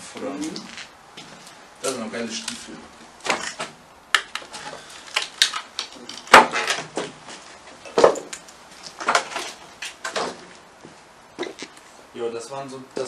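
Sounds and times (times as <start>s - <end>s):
footsteps crunching on rubble: 0.0s - 11.9s.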